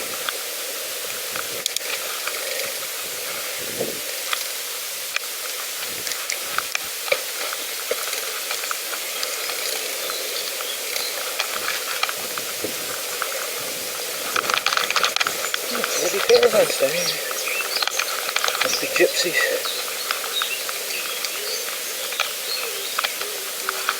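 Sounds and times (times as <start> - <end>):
bicycle tyres rolling on path: 0.0 - 23.9
grit crackling under wheels: 0.0 - 23.9.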